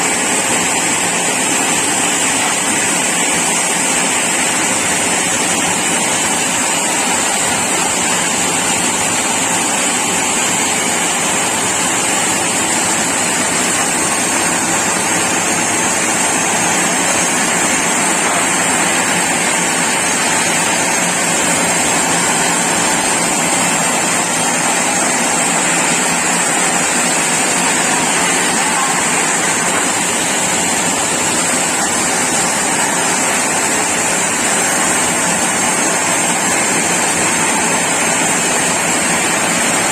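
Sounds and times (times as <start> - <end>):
sawmill saw cutting log: 0.1 - 39.9.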